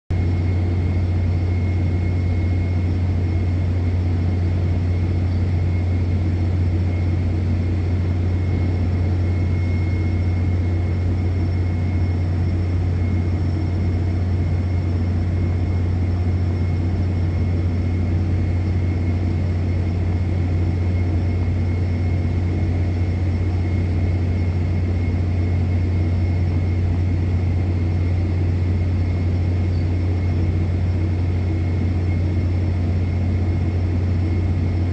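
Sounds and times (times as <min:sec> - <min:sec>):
low industrial drone: 0:00.1 - 0:34.9
faint high whine: 0:00.2 - 0:34.9.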